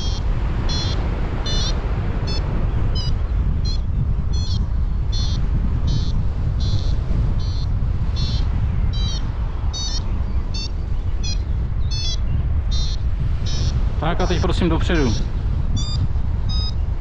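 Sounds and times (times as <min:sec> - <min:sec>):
variometer beeping: 0:00.0 - 0:09.2, 0:09.8 - 0:13.7, 0:15.8 - 0:16.8
wind buffeting microphone: 0:00.0 - 0:17.0.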